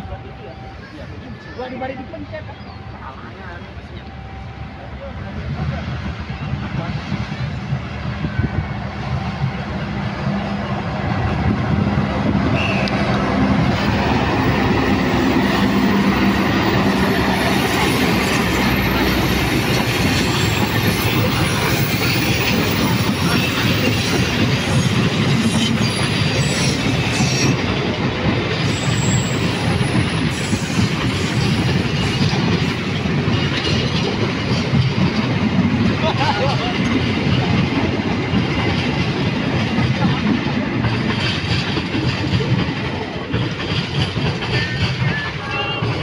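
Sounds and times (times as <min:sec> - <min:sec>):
train wheels on rails: 0:00.0 - 0:46.0
locomotive engine running: 0:06.5 - 0:46.0.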